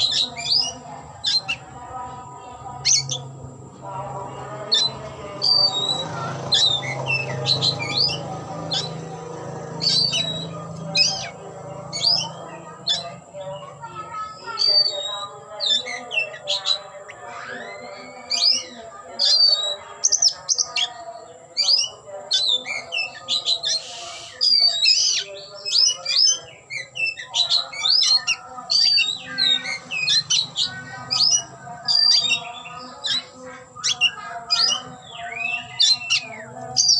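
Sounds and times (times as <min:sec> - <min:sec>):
bird chirping and whistling: 0:00.0 - 0:01.6, 0:04.7 - 0:09.1, 0:09.8 - 0:13.2, 0:14.4 - 0:20.9, 0:21.6 - 0:36.9.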